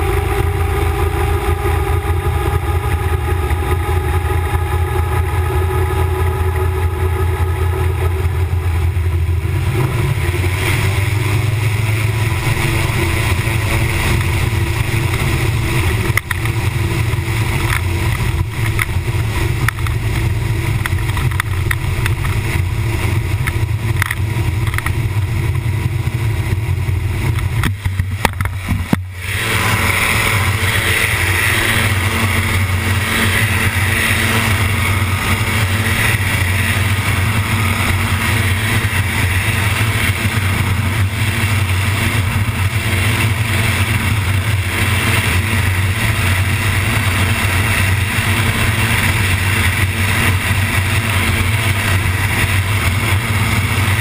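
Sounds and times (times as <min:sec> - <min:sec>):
aircraft engine and propeller: 0:00.0 - 0:54.0
loud rushing noise: 0:00.0 - 0:54.0.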